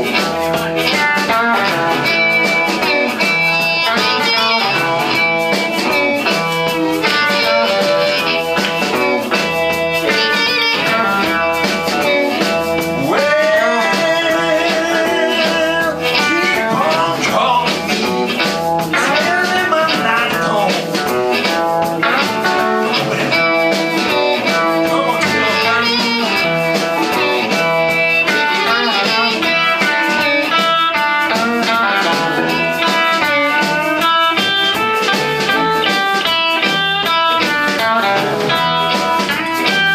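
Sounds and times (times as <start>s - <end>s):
electric blues band playing: 0.0s - 39.9s
wailing blues harmonica: 0.0s - 39.9s.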